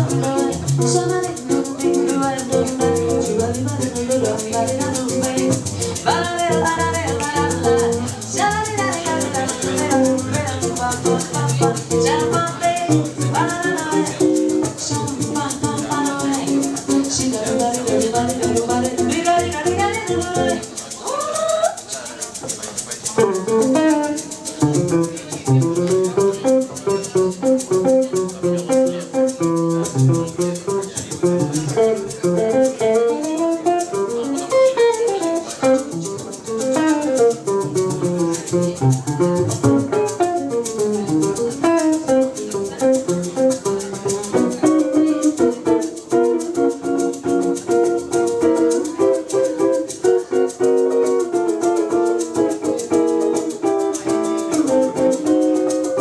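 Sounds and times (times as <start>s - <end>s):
guitar picking a melody: 0.0s - 56.0s
hand shaker rhythm: 0.0s - 56.0s.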